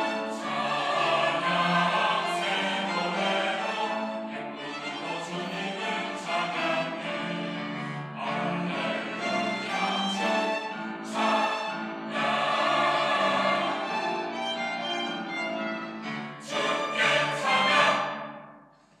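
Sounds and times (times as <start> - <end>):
church choir singing: 0.0 - 18.6.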